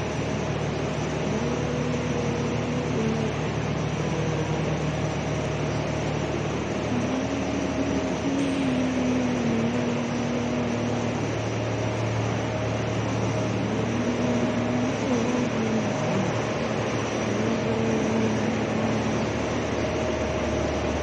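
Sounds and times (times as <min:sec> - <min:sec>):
machinery humming and whirring: 0:00.0 - 0:21.0.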